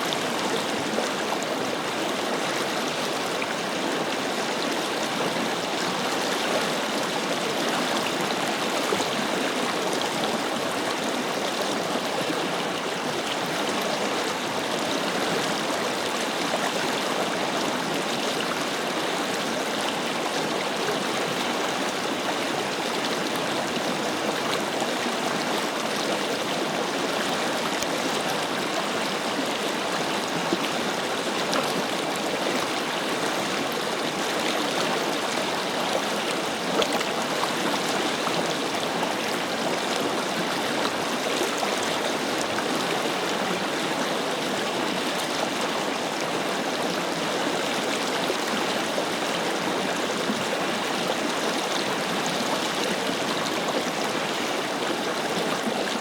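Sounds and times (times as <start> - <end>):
river flowing over stones: 0.0 - 56.0.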